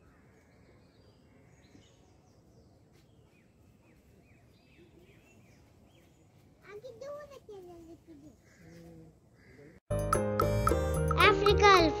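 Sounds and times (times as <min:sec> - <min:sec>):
faint birdsong: 0:00.0 - 0:09.9
outdoor background noise: 0:00.0 - 0:09.9.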